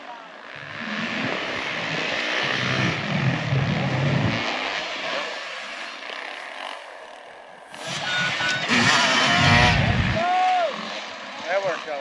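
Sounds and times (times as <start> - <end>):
dirt bike engine: 0.0 - 12.0.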